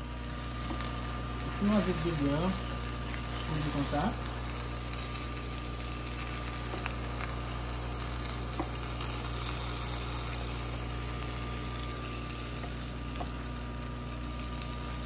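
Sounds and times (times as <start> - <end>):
low hum: 0.0 - 15.0
steak sizzling on a grill: 0.0 - 15.0.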